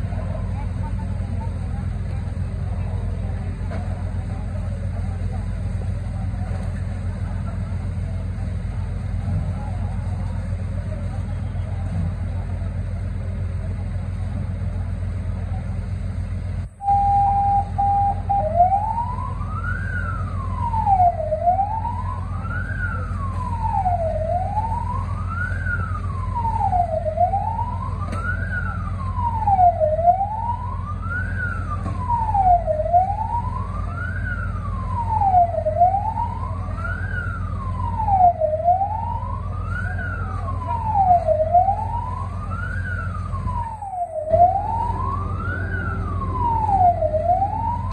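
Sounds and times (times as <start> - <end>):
fire engine siren wailing: 0.0 - 47.9
idling engine rumble: 0.0 - 47.9.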